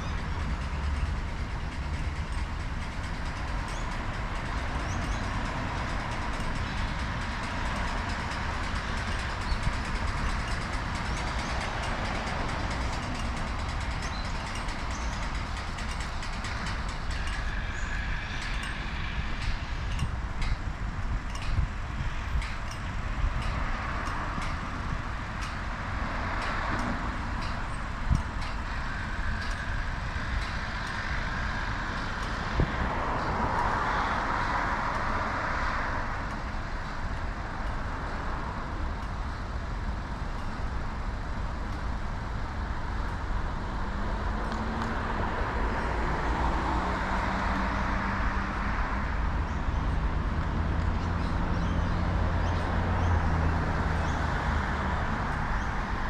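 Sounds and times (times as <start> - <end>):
constant low rumble: 0.0 - 46.2
heavy vehicle engine hum: 0.0 - 56.0
road traffic passing: 0.0 - 56.0.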